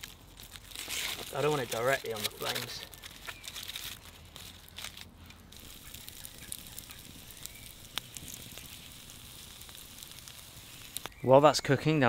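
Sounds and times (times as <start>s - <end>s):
burning logs popping: 0.0s - 12.0s
campfire crackling: 0.0s - 12.0s.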